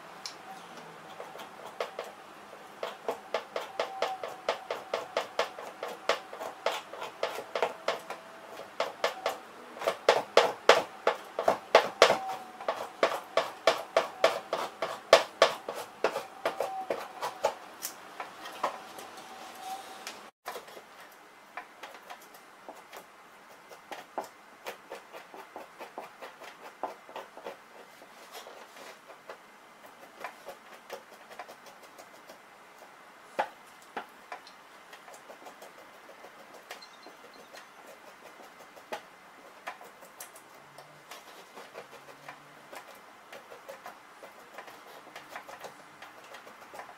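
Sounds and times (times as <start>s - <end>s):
knife scraping an animal pelt: 2.8s - 18.9s, 21.8s - 32.9s, 34.9s - 46.9s.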